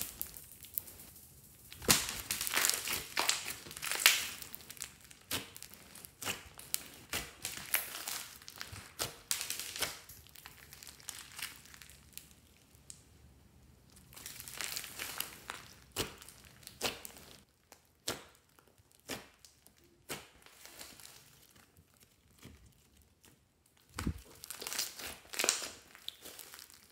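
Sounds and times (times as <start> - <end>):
slime crackling and popping: 0.0 - 26.9.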